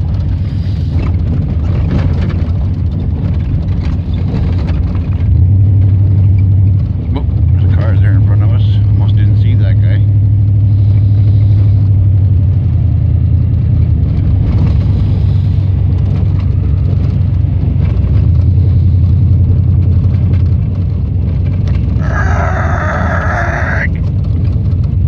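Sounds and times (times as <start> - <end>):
tyres on slushy road: 0.0 - 25.0
vehicle engine drone: 0.0 - 25.0.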